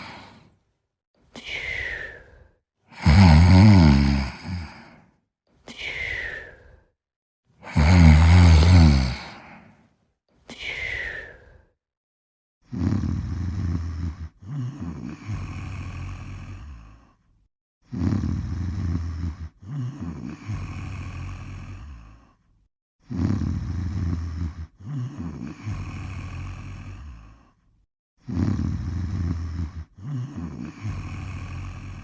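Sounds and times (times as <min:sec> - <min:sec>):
person snoring: 0:00.0 - 0:00.7, 0:01.3 - 0:07.0, 0:07.6 - 0:11.8, 0:12.6 - 0:32.0.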